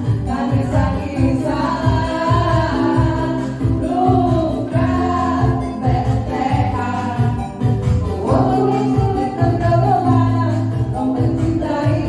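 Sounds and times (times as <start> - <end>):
backing track with bass beat: 0.0 - 12.0
group of women singing along: 0.0 - 12.0
women singing pop song: 0.0 - 12.0.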